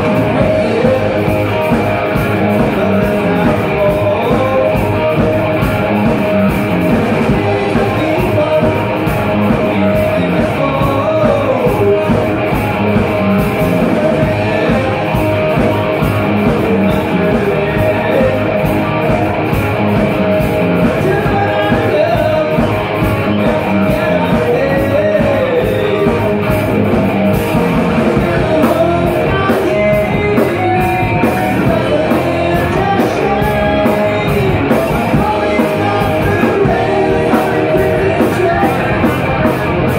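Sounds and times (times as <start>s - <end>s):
man singing: 0.0s - 19.6s, 20.4s - 26.9s, 28.0s - 39.9s
bass guitar: 0.0s - 39.9s
drum kit: 0.0s - 39.9s
electric guitar: 0.0s - 39.9s.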